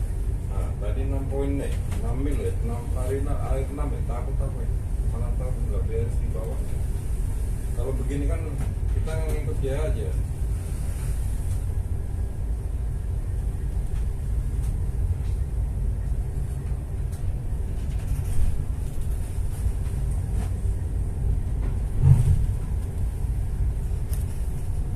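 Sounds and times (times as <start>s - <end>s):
boat engine rumbling: 0.0s - 24.9s.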